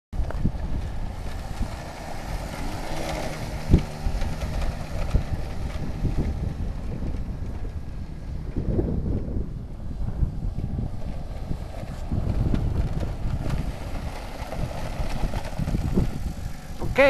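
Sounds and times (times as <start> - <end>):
quad bike engine running: 0.2 - 17.0
wind rumbling on microphone: 0.2 - 17.0.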